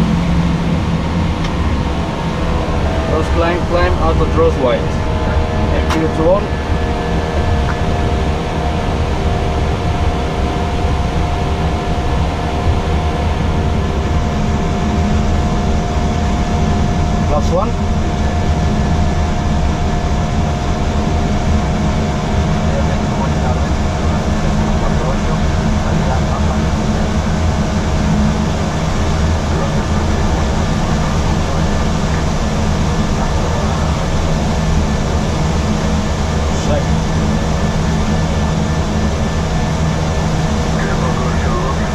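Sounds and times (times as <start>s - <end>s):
airflow rush: 0.0s - 41.9s
jet engines at climb thrust: 0.0s - 41.9s
low rumble: 0.0s - 41.9s.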